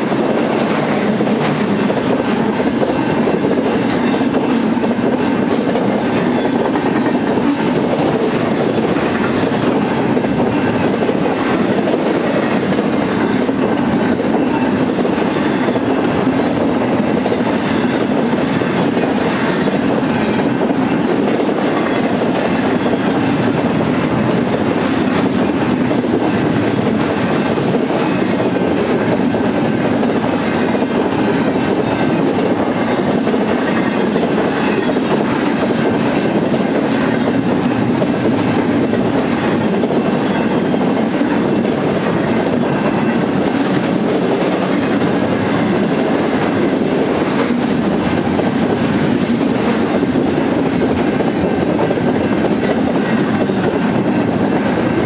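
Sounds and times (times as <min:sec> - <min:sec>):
freight train wheels rumbling on rail: 0:00.0 - 0:55.0
wheels clickety-clack: 0:00.0 - 0:55.0.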